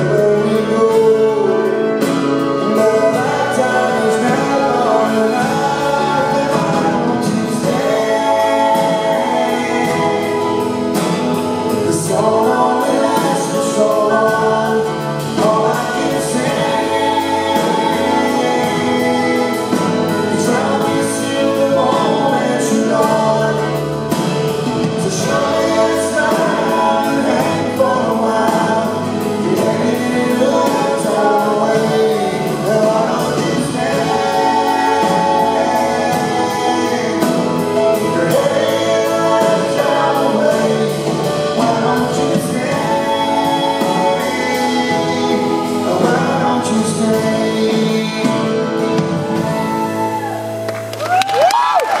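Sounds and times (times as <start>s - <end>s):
man singing: 0.0s - 50.1s
acoustic guitar: 0.0s - 52.0s.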